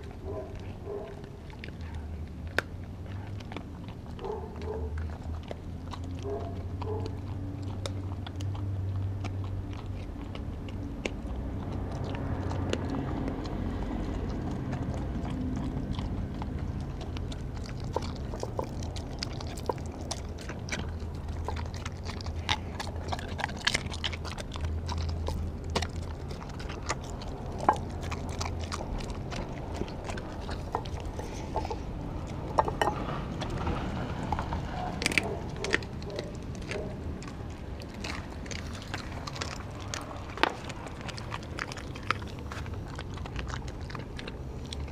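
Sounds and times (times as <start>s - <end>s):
dog licking and chewing: 0.0s - 44.9s
sharp clicks and crunches: 0.0s - 44.9s.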